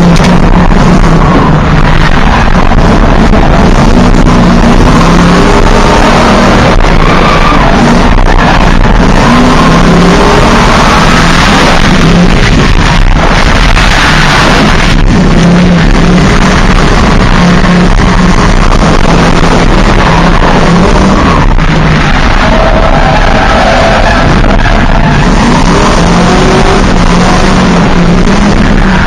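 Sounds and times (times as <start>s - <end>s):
car engine revving: 0.0s - 29.0s
rushing noise: 0.0s - 29.0s.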